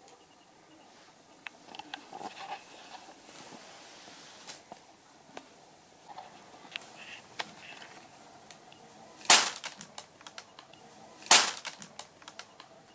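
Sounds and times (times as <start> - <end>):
small crackles: 0.9 - 12.7.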